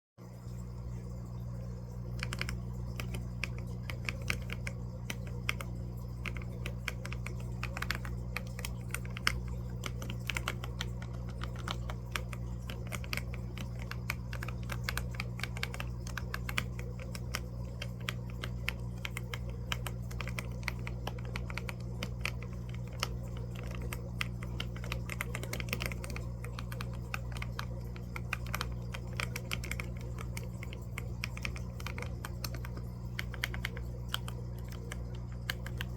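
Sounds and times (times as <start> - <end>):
fish tank equipment hum: 0.2 - 35.9
keyboard typing: 1.9 - 35.9.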